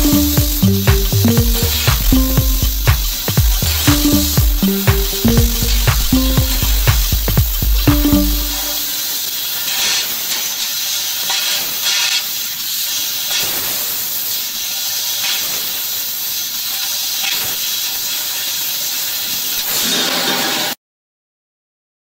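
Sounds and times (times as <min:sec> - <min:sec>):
laser cutter gas hiss: 0:00.0 - 0:20.0.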